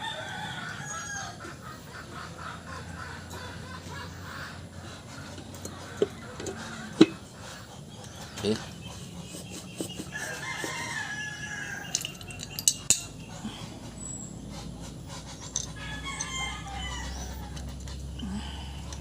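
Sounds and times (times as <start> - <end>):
chickens calling: 0.0 - 19.0.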